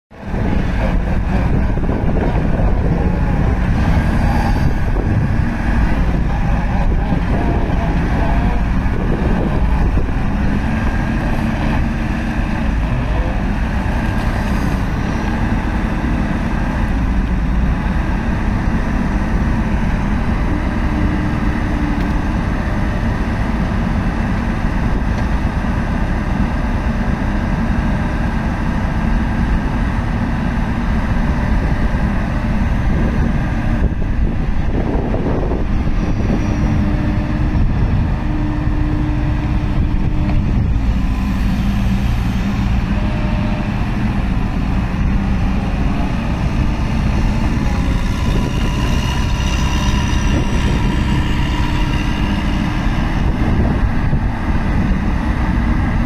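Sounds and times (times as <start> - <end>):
excavator diesel engine running: 0.1 - 56.0.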